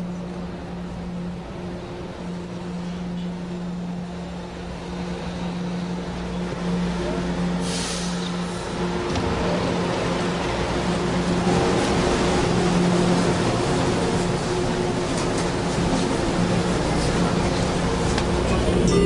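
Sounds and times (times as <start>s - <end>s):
train motor hum and rumble: 0.0s - 19.0s.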